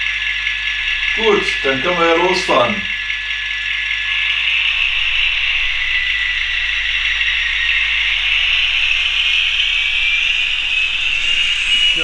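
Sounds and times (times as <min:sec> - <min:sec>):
model train whirring and rattling: 0:00.0 - 0:12.0
thin rising whine: 0:00.0 - 0:12.0.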